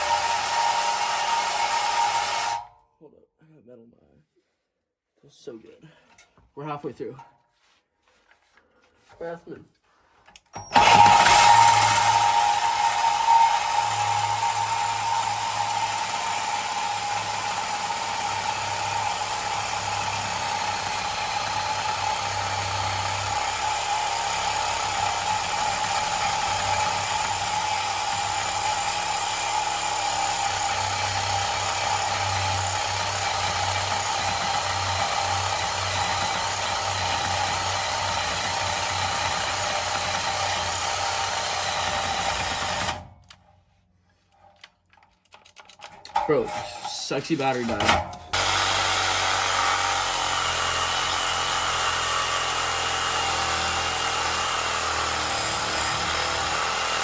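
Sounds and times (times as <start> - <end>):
power saw cutting steel pipe: 0.0 - 2.7, 10.6 - 43.1, 46.1 - 57.0.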